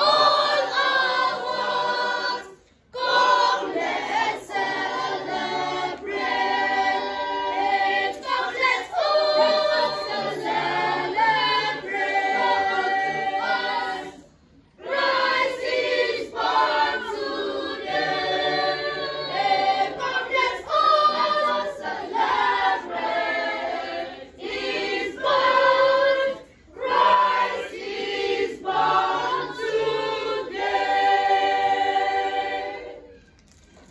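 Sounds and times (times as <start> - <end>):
children's choir singing: 0.0 - 33.2.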